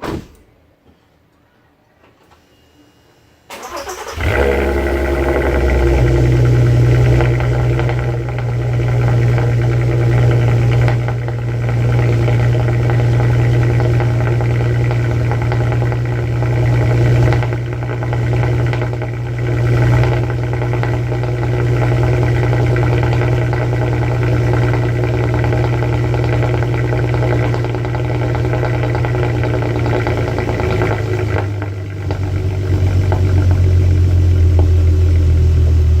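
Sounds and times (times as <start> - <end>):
car engine idling: 3.5 - 36.0.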